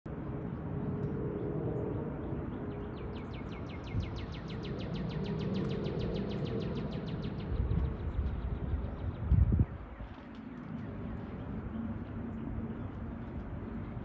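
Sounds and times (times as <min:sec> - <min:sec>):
low outdoor rumble: 0:00.1 - 0:14.0.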